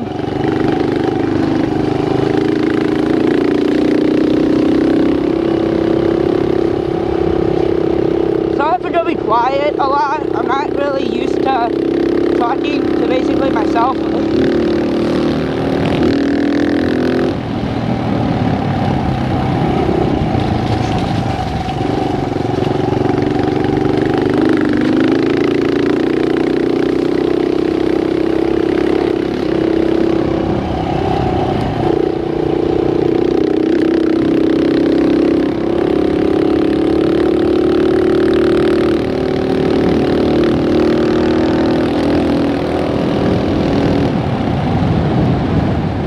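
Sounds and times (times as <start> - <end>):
dirt bike engine revving: 0.0 - 44.3.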